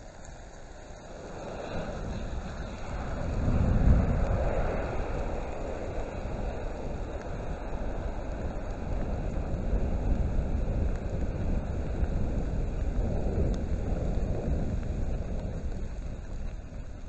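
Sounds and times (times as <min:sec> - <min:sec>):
flames rushing: 0:00.0 - 0:17.0.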